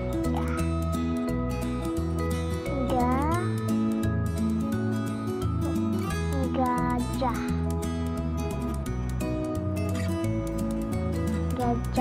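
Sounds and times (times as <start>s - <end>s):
background music with bass line: 0.0s - 12.0s.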